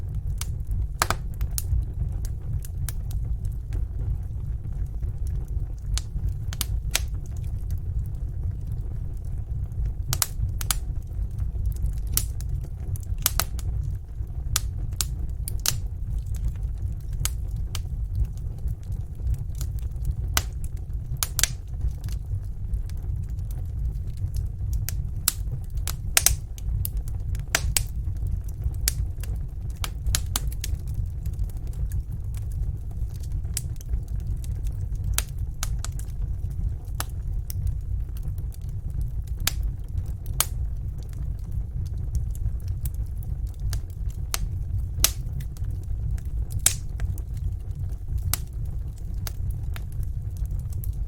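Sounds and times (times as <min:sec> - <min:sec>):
low rumble of flames: 0:00.0 - 0:51.0
wood fire crackling and popping: 0:00.0 - 0:51.0.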